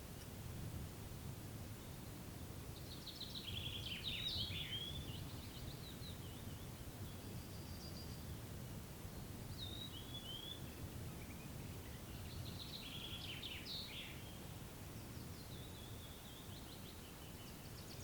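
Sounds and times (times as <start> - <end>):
songbird singing: 1.6 - 18.0.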